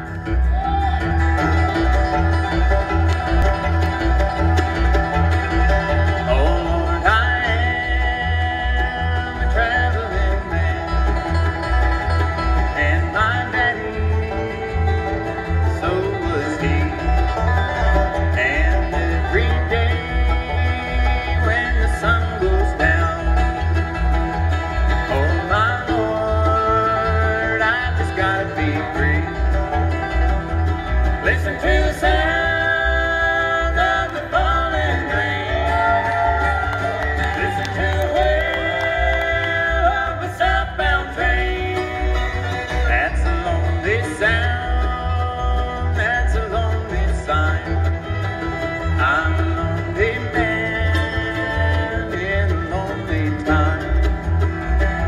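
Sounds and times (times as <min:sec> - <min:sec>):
bluegrass band playing: 0:00.0 - 0:55.0
upright bass beat: 0:00.0 - 0:55.0.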